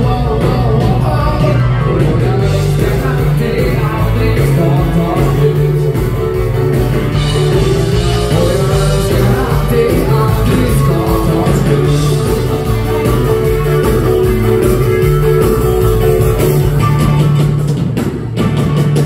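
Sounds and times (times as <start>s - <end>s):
dance band playing live: 0.0s - 19.0s.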